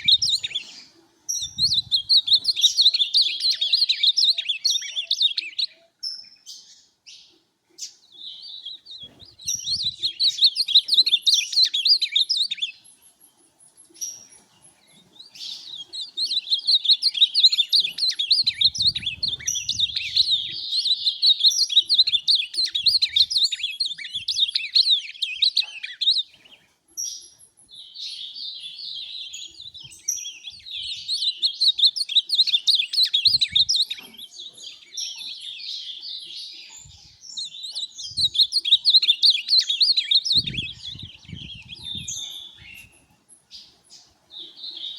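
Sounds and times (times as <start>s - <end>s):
bird singing warbling song: 0.0s - 44.9s.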